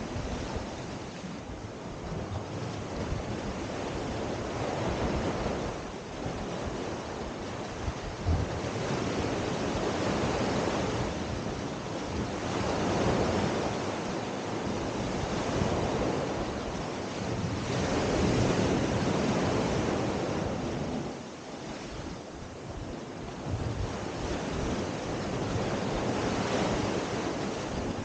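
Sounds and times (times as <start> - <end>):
waves washing up a beach: 0.0 - 28.0.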